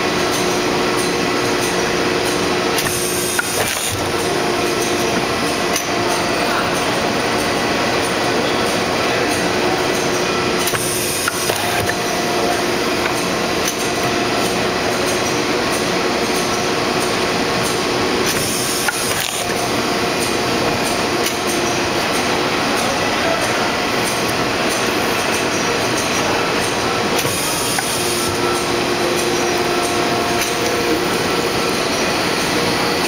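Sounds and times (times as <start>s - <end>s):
industrial machine noise: 0.0s - 33.0s.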